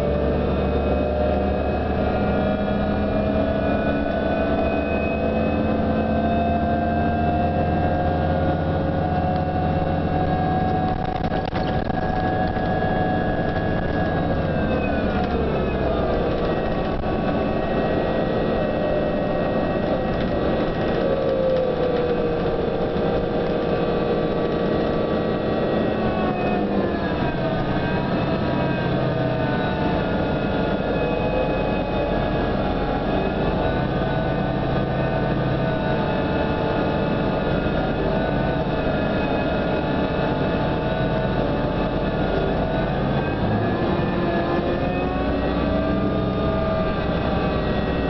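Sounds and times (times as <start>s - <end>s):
bus drivetrain whine: 0.0s - 48.0s
low running rumble: 0.0s - 48.0s.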